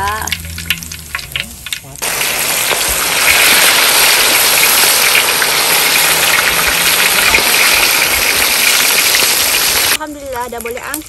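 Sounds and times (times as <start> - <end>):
fish deep-frying in hot oil: 0.0 - 11.0.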